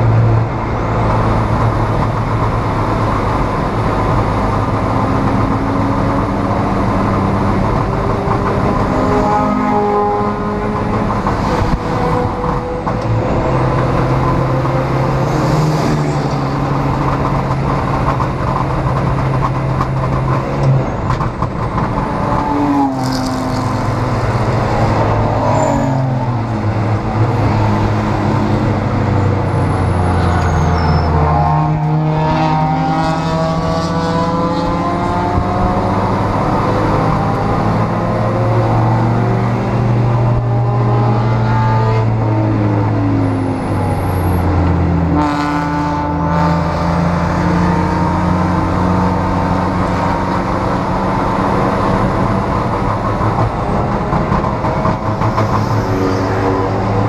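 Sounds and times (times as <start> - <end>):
race car engine running hard: 0.0 - 31.1, 31.7 - 57.0
wind and road noise: 0.0 - 57.0.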